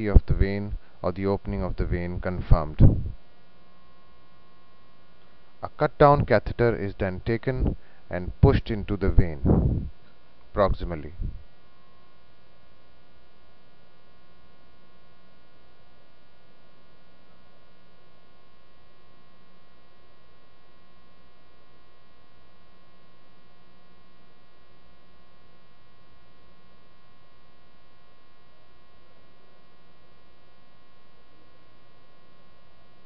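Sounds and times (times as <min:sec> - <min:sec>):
electrical mains hum: 0:00.0 - 0:33.0.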